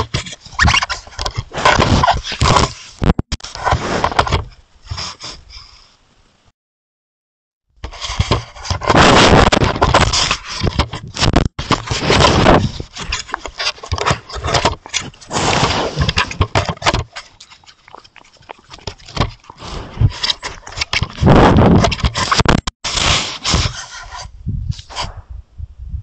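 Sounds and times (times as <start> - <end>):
animal rubbing against camera: 0.0 - 5.4, 7.9 - 25.2.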